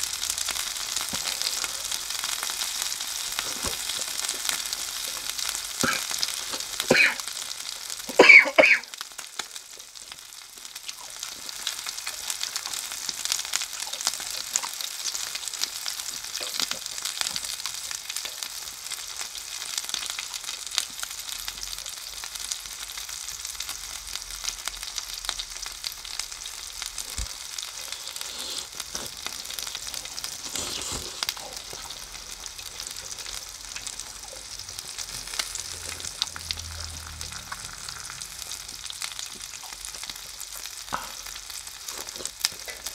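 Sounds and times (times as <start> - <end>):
chicken skewers sizzling: 0.0 - 42.9.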